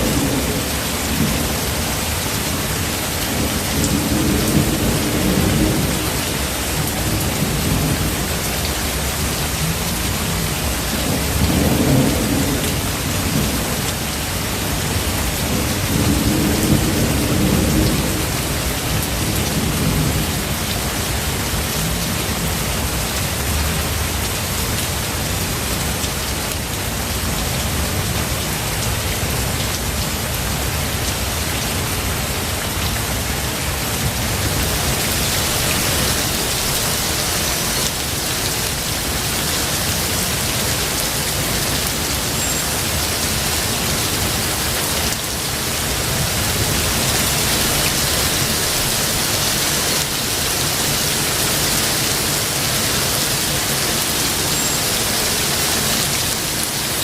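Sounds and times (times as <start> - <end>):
rain hissing: 0.0 - 57.0.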